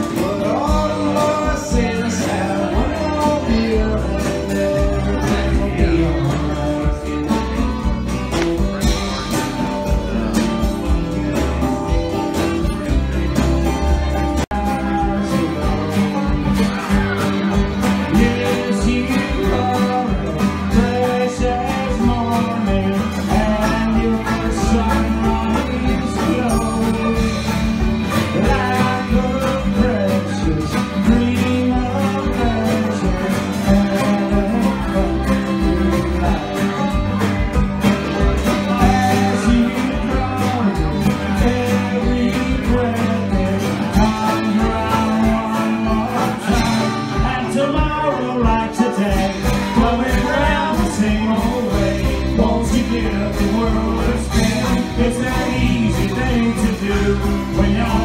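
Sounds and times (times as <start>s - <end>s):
banjo picking: 0.0s - 58.0s
strummed acoustic guitar: 0.0s - 58.0s.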